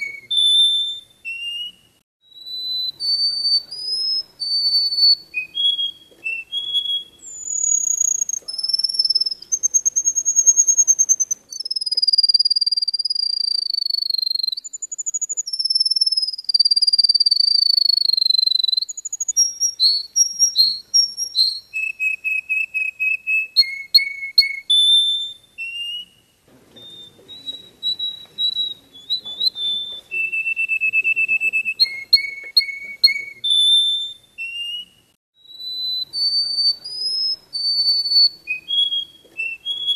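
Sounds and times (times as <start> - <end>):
finch singing: 0.0 - 39.9.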